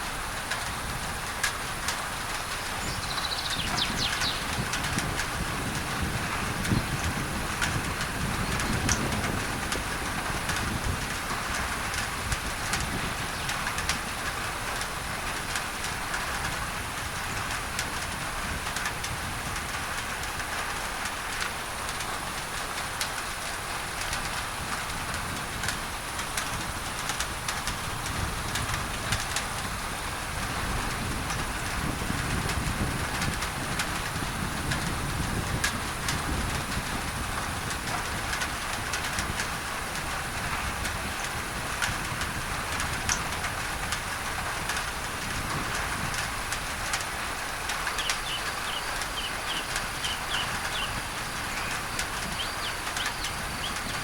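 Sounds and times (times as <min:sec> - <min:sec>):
pink-noise hiss: 0:00.0 - 0:54.0
rain pattering on a tin roof: 0:00.0 - 0:54.0.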